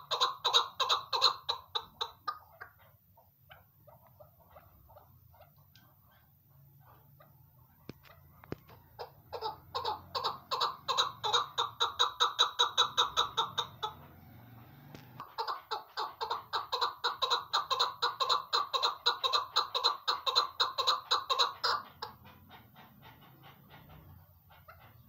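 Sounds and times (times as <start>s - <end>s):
partridge cackling call: 0.0s - 6.3s, 7.2s - 25.0s.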